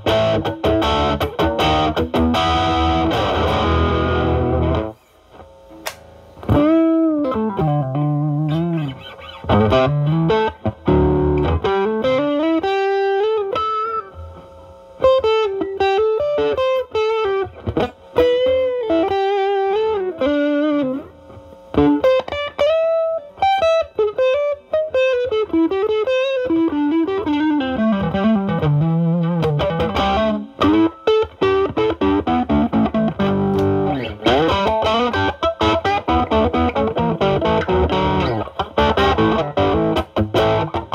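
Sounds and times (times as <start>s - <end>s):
overdriven electric guitar lead: 0.0s - 40.9s
strummed guitar chords: 0.0s - 40.9s.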